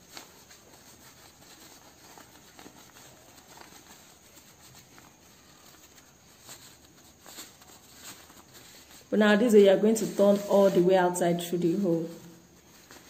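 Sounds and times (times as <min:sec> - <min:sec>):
fabric rustling and scratching: 0:00.0 - 0:13.0.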